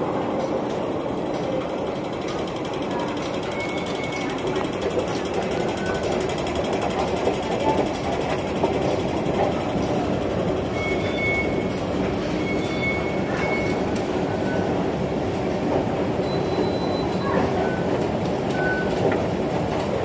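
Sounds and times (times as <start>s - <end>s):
escalator machinery rumble: 0.0s - 20.0s.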